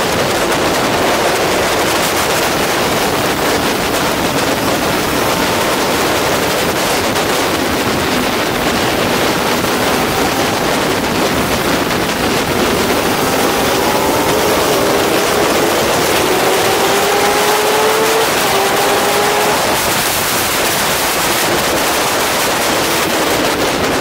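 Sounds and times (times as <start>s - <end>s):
motorcycle engine at speed: 0.0s - 24.0s
wind noise: 0.0s - 24.0s.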